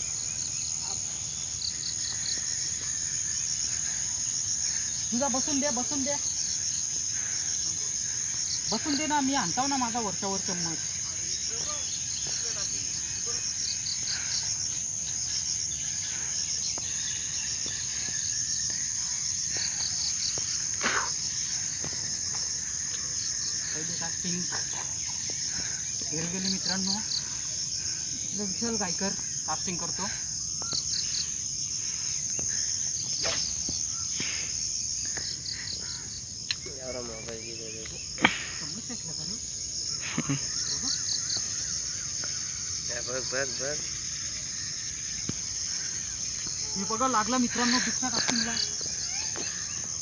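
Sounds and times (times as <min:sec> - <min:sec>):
insects trilling: 0:00.0 - 0:50.0.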